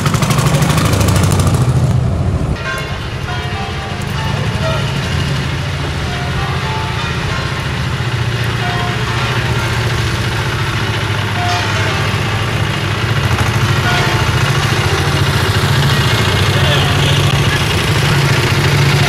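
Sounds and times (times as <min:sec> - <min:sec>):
tractor engine throbbing: 0:00.0 - 0:19.0.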